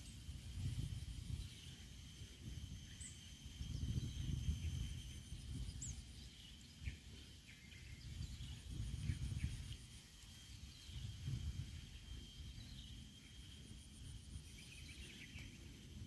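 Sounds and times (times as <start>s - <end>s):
high-pitched insect drone: 0.0s - 16.0s
bird chirps: 1.2s - 16.0s.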